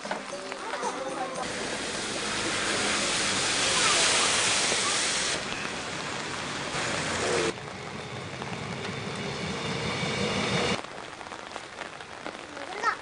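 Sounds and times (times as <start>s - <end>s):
train wheels rumbling on rails: 0.0s - 12.2s
rain hissing on a wet street: 0.0s - 13.0s.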